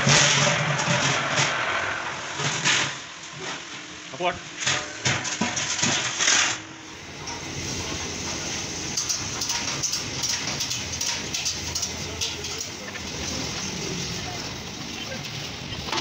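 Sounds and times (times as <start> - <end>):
arc welding crackle: 0.0 - 16.0.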